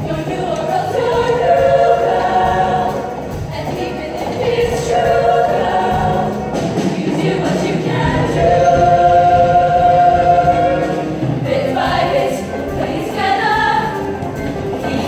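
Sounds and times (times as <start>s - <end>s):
choir singing a sustained chord: 0.6s - 3.2s, 4.3s - 14.0s.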